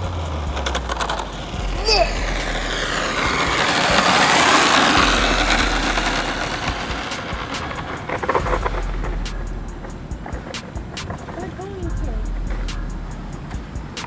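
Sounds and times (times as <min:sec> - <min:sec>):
rc truck motor and tyres whirring: 0:00.0 - 0:13.8.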